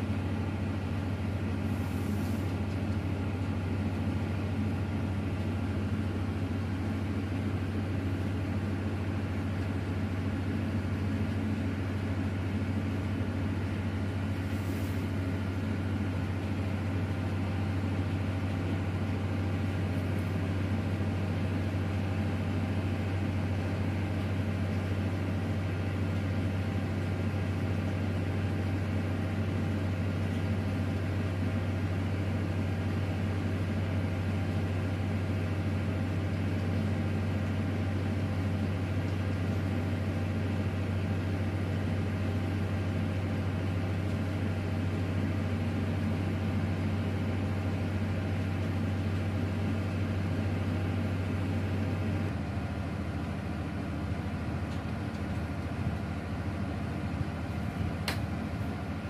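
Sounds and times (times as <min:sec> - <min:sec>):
large engine deep hum: 0:00.0 - 0:59.0.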